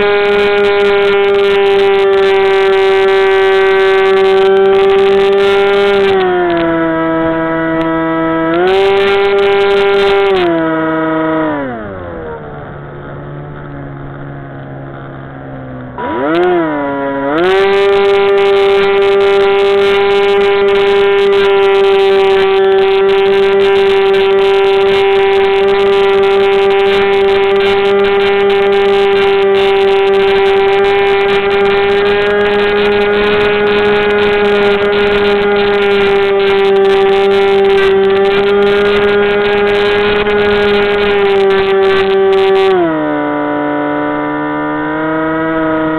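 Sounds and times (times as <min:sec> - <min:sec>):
electric motor and propeller whine: 0:00.0 - 0:45.9.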